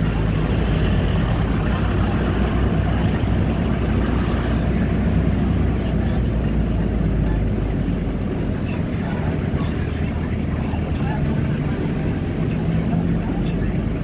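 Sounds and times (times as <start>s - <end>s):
vehicle engine drone and road noise: 0.0s - 14.0s.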